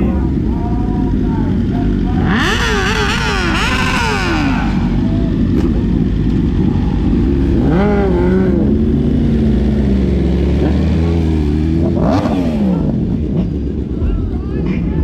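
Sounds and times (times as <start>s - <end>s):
car engine revving: 0.0s - 14.1s
engines idling: 0.0s - 15.0s.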